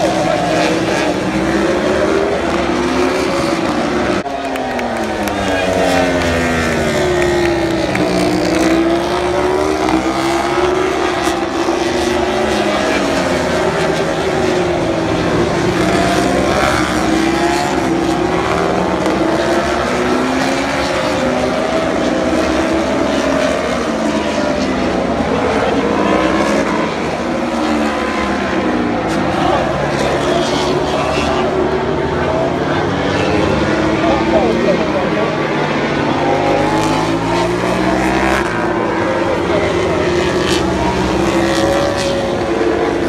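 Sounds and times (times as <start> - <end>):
racing motorcycles passing: 0.0 - 43.0.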